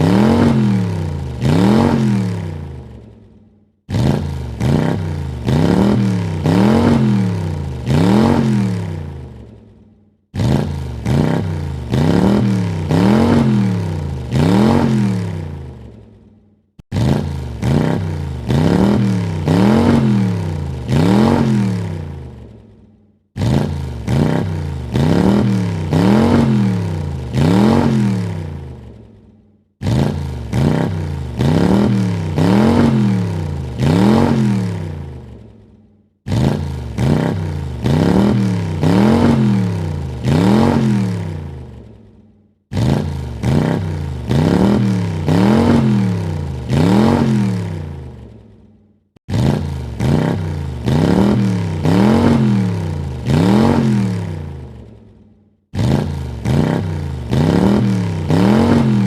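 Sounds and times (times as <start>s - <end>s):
car engine revving: 0.0s - 3.1s, 3.9s - 9.6s, 10.3s - 16.0s, 16.8s - 22.7s, 23.4s - 29.2s, 29.8s - 35.6s, 36.3s - 42.0s, 42.7s - 48.4s, 49.3s - 55.0s, 55.8s - 59.0s.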